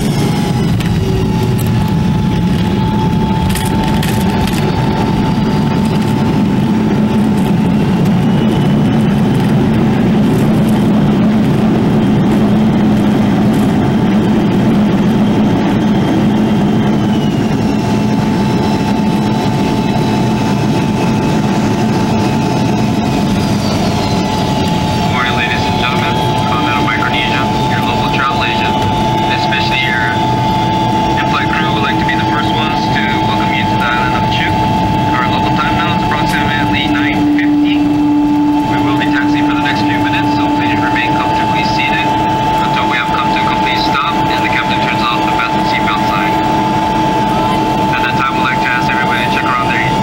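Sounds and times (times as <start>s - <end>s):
constant engine whine: 0.0s - 50.0s
higher whine sliding down: 0.0s - 50.0s
rumble of engines and runway: 0.0s - 50.0s.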